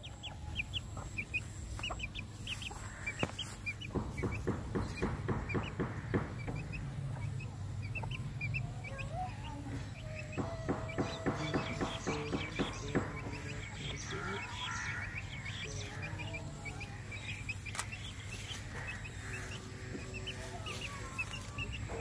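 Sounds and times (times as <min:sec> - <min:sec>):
chick peeping: 0:00.0 - 0:22.0
hen clucking: 0:00.0 - 0:22.0.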